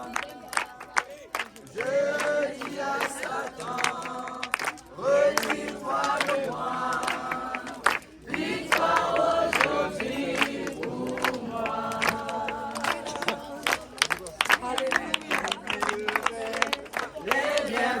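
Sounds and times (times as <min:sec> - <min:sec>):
hand claps: 0:00.0 - 0:18.0
group singing a worship chorus: 0:01.7 - 0:14.0, 0:14.6 - 0:18.0.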